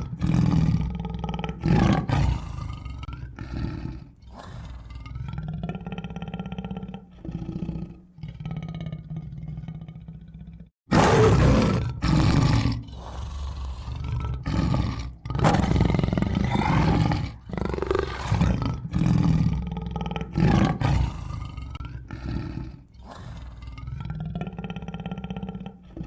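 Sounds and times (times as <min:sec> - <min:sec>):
tiger roaring and growling: 0:00.0 - 0:26.0.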